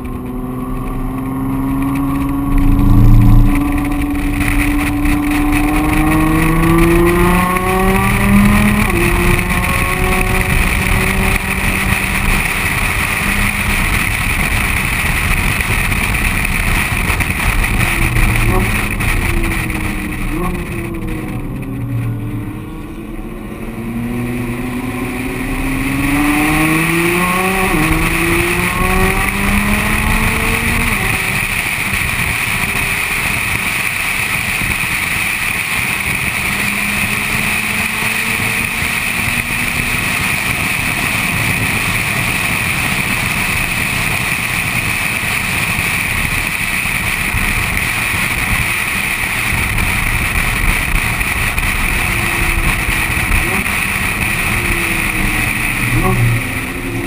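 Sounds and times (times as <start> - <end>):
car engine accelerating through gears: 0.0 - 57.0
wind and road noise: 0.0 - 57.0.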